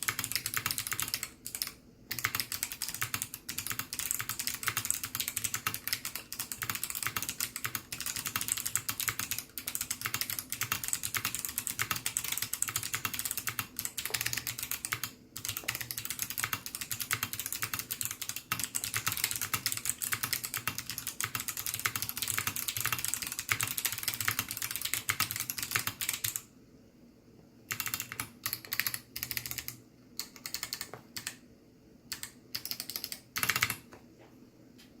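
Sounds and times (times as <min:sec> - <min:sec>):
clicky mechanical keyboard typing: 0:00.0 - 0:26.5, 0:27.7 - 0:31.4, 0:32.1 - 0:33.9.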